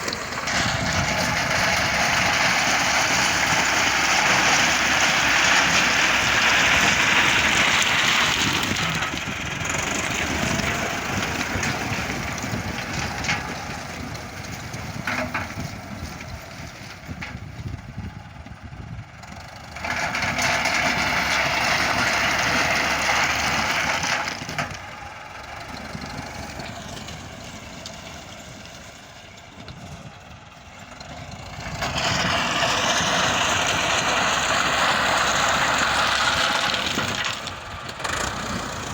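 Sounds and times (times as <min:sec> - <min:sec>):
heavy machinery engines running: 0:00.0 - 0:38.9.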